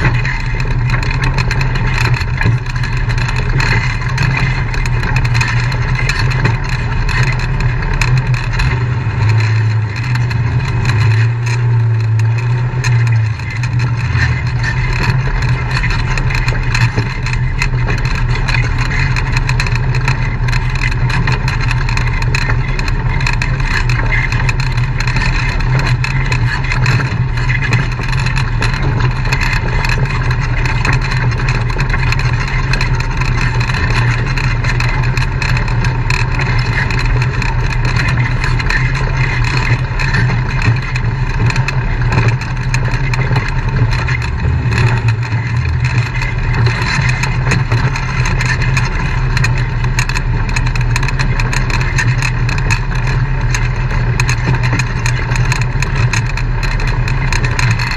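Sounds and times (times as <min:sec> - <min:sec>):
off-road vehicle engine droning: 0:00.0 - 0:57.9
rattles and knocks: 0:00.0 - 0:57.9.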